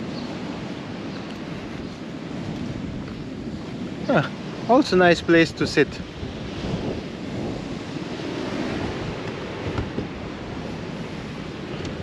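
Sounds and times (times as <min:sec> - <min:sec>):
sea surf washing in: 0:00.0 - 0:12.0
wind on microphone: 0:00.0 - 0:12.0.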